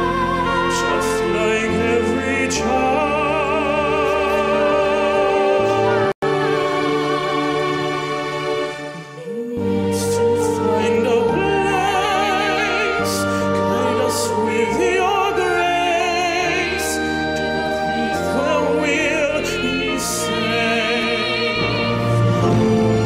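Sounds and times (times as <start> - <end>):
pop voice singing: 0.0 - 7.2, 8.8 - 23.0
opera-style singing: 0.0 - 23.0
orchestral backing track: 0.0 - 23.0.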